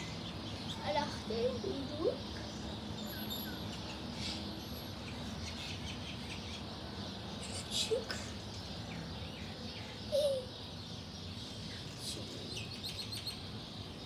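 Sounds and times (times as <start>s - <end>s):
birds chirping: 0.0s - 14.0s
steady background noise: 0.0s - 14.0s.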